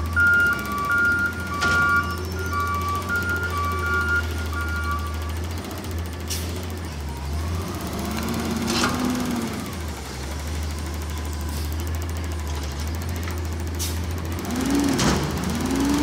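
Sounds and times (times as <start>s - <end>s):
garbage truck engine rumbling: 0.0s - 16.0s.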